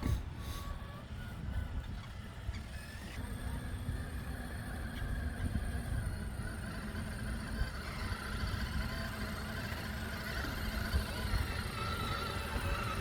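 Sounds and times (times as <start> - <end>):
rc car motor whining: 0.0 - 13.0.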